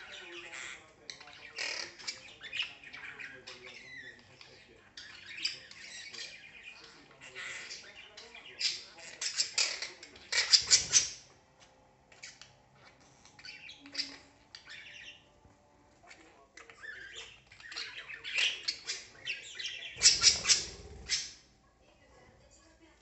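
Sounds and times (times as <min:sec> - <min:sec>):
parakeets squawking: 0:00.0 - 0:11.4, 0:12.1 - 0:15.3, 0:16.0 - 0:21.5.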